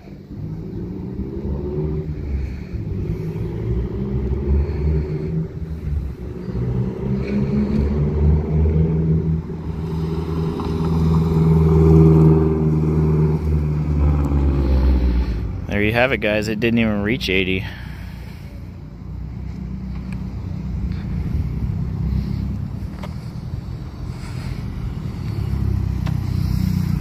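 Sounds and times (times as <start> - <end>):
car accelerating through gears: 0.0 - 27.0.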